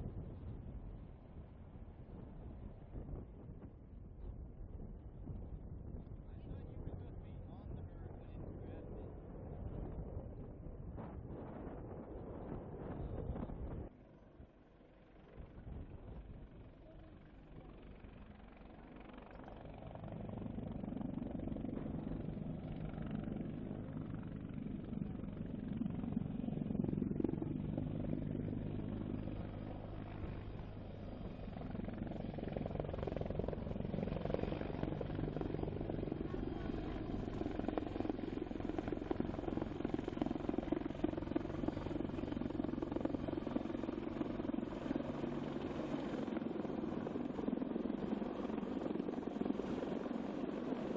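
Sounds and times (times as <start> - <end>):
helicopter rotor hum: 0.0 - 50.9.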